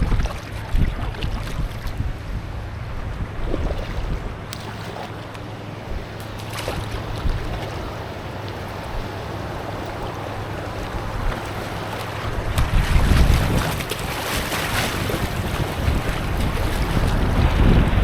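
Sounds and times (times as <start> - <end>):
river water running: 0.0 - 18.0
wind buffeting the microphone: 0.0 - 18.0.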